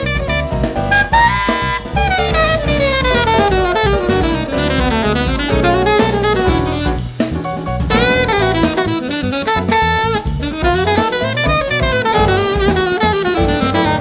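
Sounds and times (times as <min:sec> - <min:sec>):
drum kit: 0:00.0 - 0:14.0
saxophone melody: 0:00.0 - 0:14.0.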